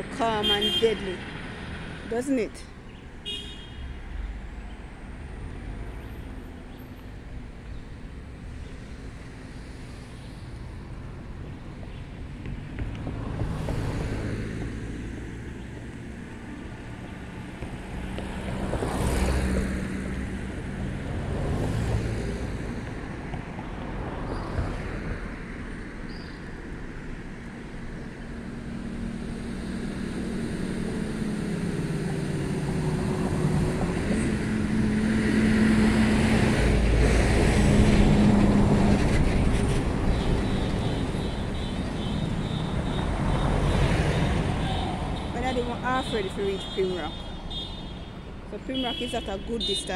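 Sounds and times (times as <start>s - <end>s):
vehicles driving past: 0.0s - 49.9s.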